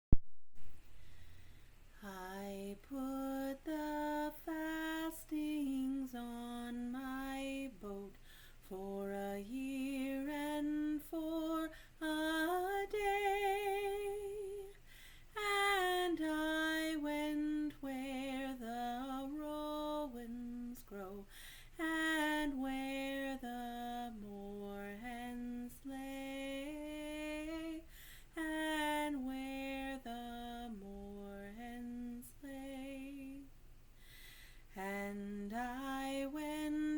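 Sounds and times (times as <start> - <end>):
woman singing unaccompanied: 2.0 - 33.6, 34.7 - 36.9.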